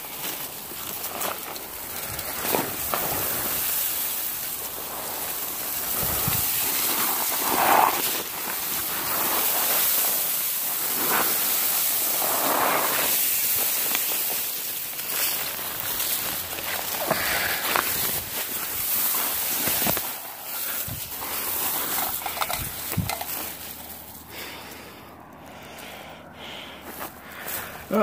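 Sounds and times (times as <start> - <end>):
branches and brush rustling: 0.0 - 28.0.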